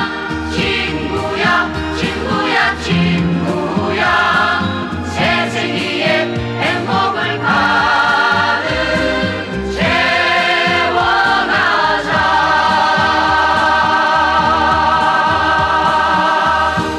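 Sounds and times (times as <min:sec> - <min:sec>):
band accompaniment: 0:00.0 - 0:16.9
voices singing long notes: 0:00.0 - 0:16.9.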